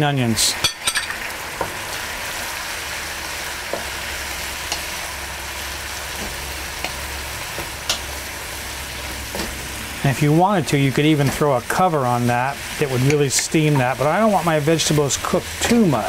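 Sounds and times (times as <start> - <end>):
vegetables sizzling in a wok: 0.0 - 16.0.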